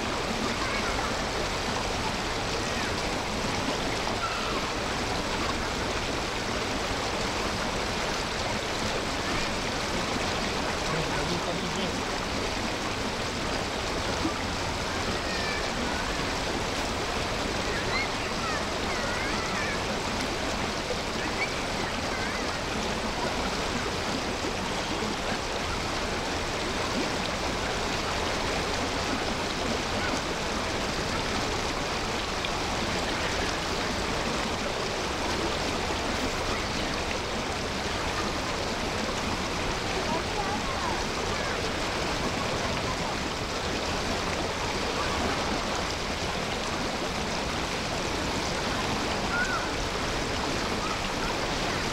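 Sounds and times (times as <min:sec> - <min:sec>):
flowing water rushing: 0:00.0 - 0:51.9.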